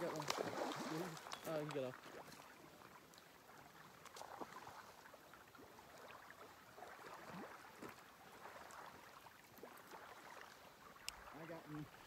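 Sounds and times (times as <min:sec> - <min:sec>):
small waves lapping on pebbles: 0:00.0 - 0:12.0.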